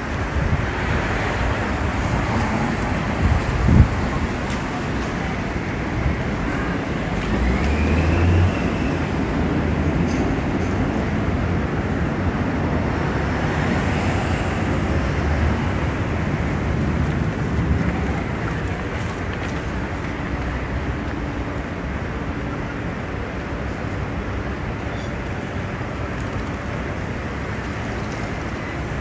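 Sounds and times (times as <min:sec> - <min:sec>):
passing cars: 0:00.0 - 0:29.0.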